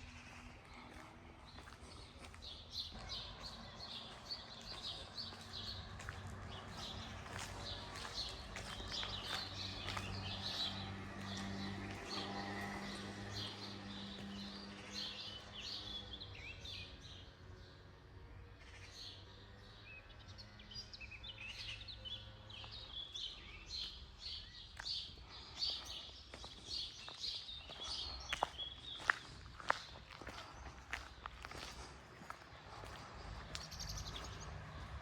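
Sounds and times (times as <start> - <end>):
small birds chirping: 0.0 - 17.8, 18.6 - 35.0.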